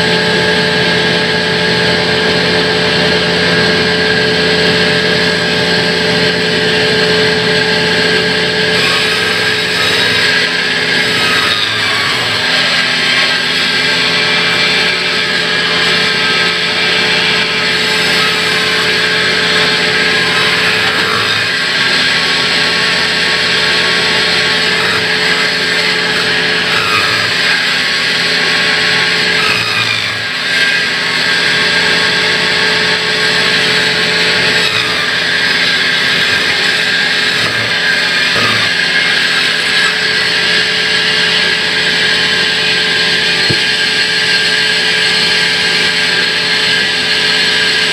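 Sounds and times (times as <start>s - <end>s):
band saw cutting through log: 0.0s - 47.9s
machine humming: 0.0s - 47.9s.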